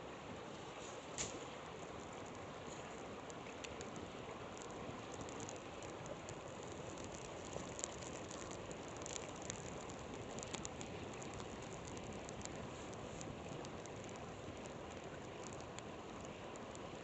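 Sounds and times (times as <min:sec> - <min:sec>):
river flowing: 0:00.0 - 0:17.0
campfire crackling and popping: 0:01.0 - 0:17.0.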